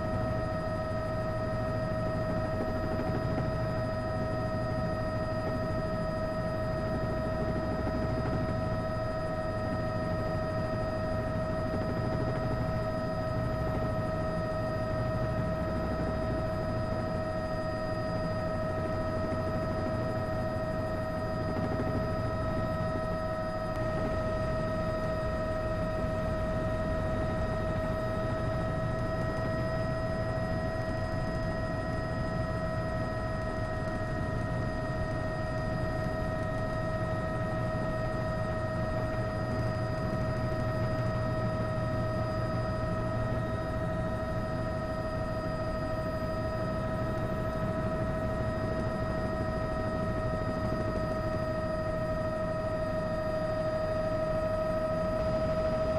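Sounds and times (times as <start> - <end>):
helicopter engine and gearbox whine: 0.0 - 55.9.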